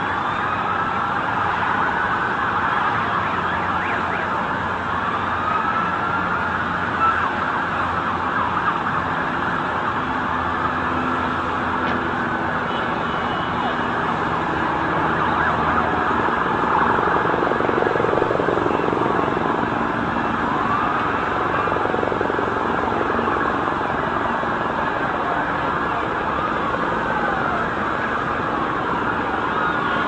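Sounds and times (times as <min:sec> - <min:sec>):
city traffic noise: 0:00.0 - 0:30.0
emergency sirens wailing: 0:00.0 - 0:30.0.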